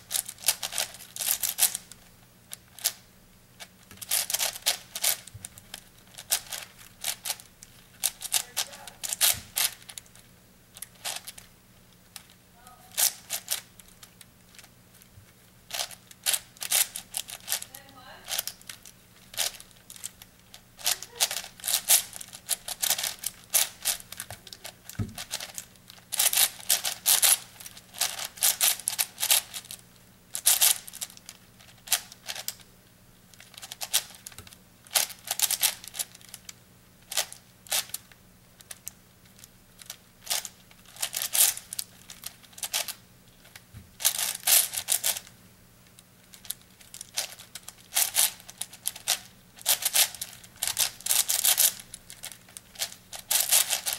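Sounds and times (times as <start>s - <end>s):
puzzle cube clacking: 0.1s - 1.9s, 3.6s - 10.1s, 10.8s - 11.5s, 12.9s - 15.1s, 15.7s - 32.6s, 33.4s - 45.3s, 46.3s - 53.9s.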